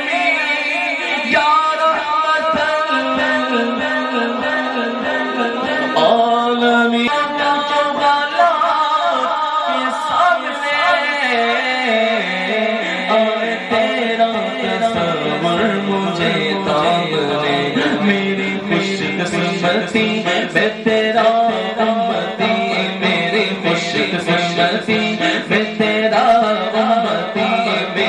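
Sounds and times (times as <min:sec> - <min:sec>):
man singing over loudspeakers: 0:00.0 - 0:28.0.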